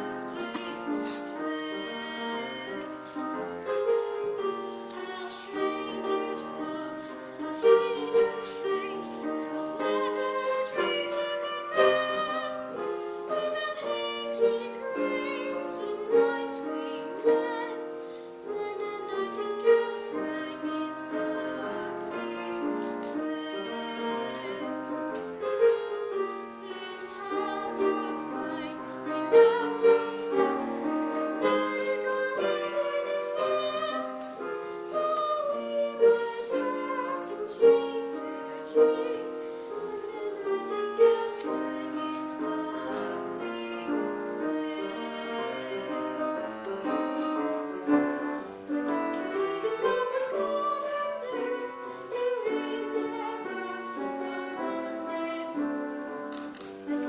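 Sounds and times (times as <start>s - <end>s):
solo piano ballad: 0.0s - 57.0s.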